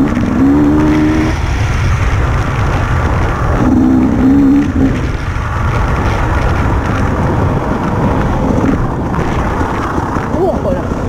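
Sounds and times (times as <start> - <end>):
heavy low rumble: 0.0 - 11.0
motorcycle engine under throttle: 0.0 - 11.0.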